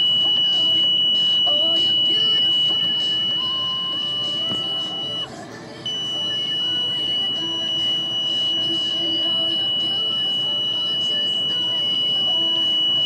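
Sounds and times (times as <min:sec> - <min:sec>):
high-pitched electronic tone: 0:00.0 - 0:05.3, 0:05.9 - 0:13.0.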